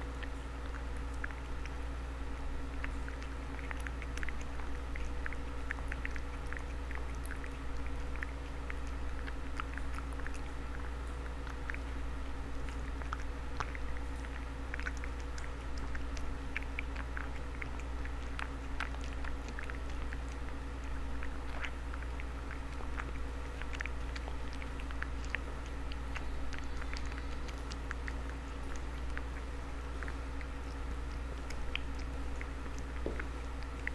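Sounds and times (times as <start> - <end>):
cat chewing: 0.0 - 33.9
steady low hum: 0.0 - 33.9.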